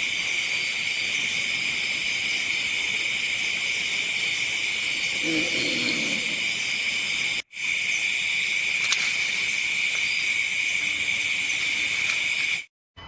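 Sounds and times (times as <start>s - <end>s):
insects chirping: 0.0s - 12.7s.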